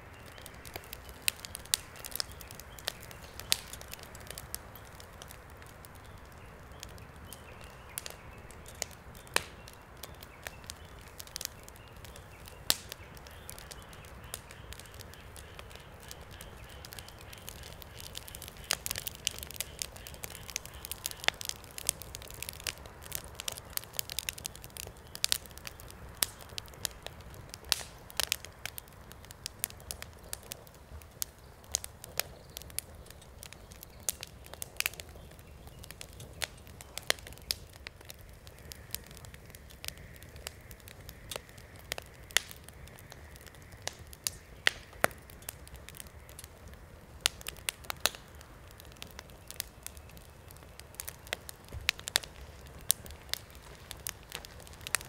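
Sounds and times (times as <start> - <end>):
bonfire crackling and popping: 0.0 - 55.0
low rumble of flames: 0.0 - 55.0.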